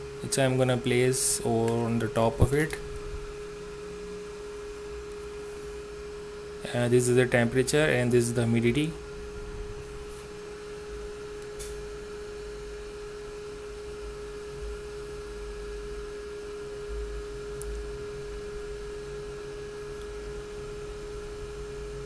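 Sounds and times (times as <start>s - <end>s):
fan heater whine: 0.0s - 22.0s
low hum: 0.0s - 22.0s.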